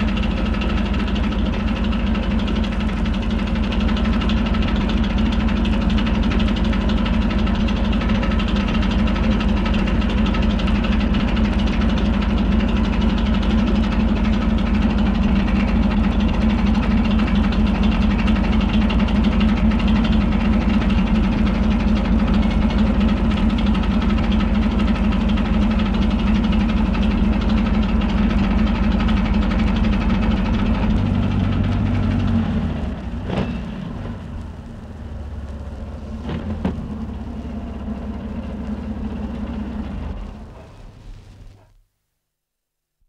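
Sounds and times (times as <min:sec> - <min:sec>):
vehicle engine ticking over: 0:00.0 - 0:41.7.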